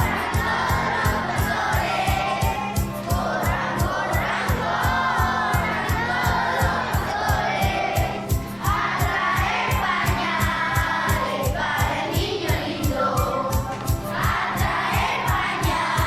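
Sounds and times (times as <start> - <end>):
fast beat: 0.0 - 16.0
group singing a song: 0.0 - 16.0.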